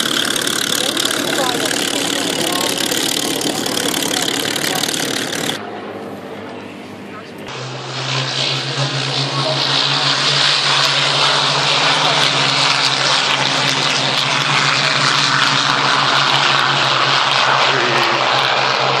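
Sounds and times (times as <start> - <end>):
propeller engines running: 0.0 - 19.0.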